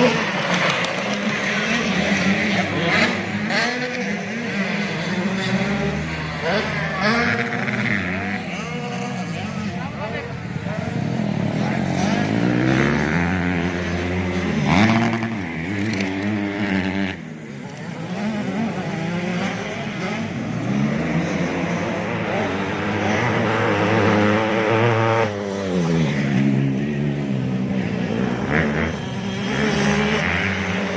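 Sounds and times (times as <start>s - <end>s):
motocross bikes revving: 0.0s - 30.9s.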